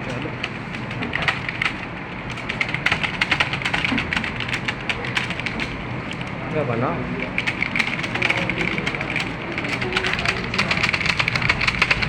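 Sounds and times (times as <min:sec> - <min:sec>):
fast keyboard typing: 0:00.0 - 0:06.3, 0:07.2 - 0:12.0.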